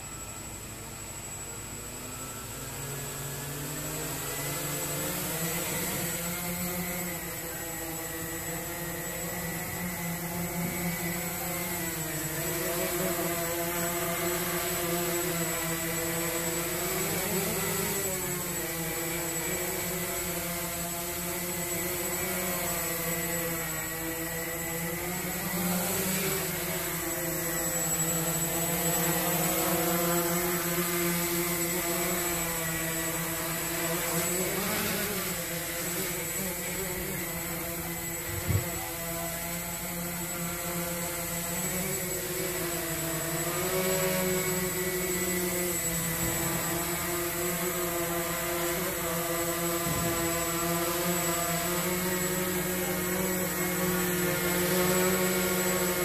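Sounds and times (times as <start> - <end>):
quadcopter propellers buzzing: 0.0 - 56.0.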